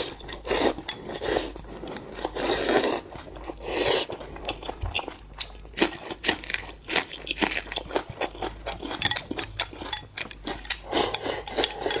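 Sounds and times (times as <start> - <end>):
person chewing crunchy seafood: 0.0 - 12.0.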